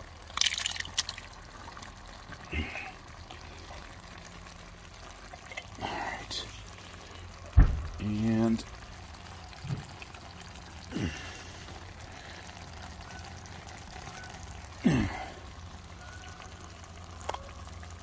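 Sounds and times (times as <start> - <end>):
chili simmering and bubbling: 0.0 - 18.0.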